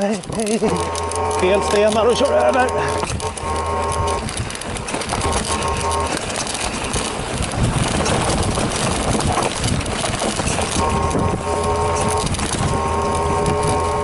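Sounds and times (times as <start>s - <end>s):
mountain bike rattling and knocking: 0.0s - 14.0s
steady mechanical buzz: 0.0s - 14.0s
wind on microphone: 2.7s - 14.0s.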